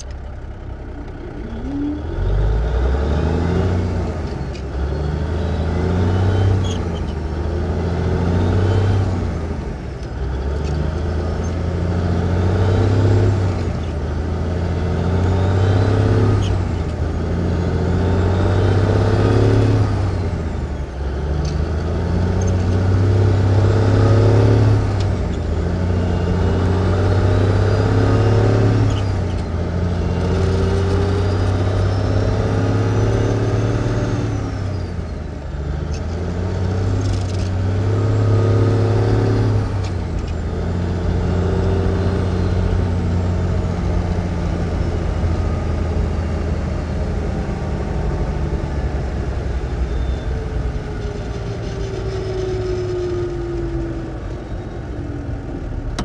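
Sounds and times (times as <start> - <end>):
truck engine shifting gears: 0.0 - 56.0.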